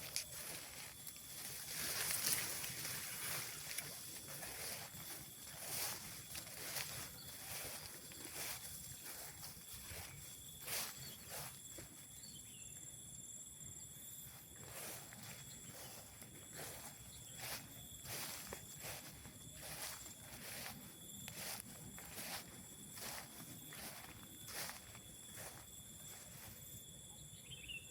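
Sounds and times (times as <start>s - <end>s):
footsteps on a trail: 0.0s - 12.1s, 14.4s - 26.6s
high-pitched insect buzz: 0.0s - 27.9s.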